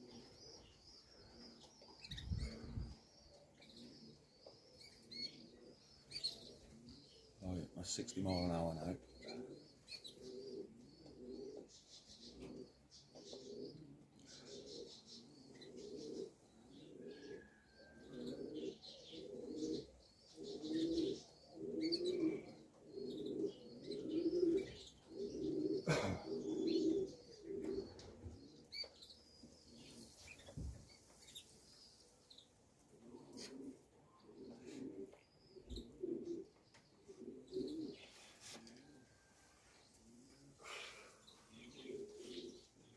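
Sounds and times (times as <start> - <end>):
pigeons cooing: 0.0 - 42.9
small birds chirping: 0.0 - 42.9.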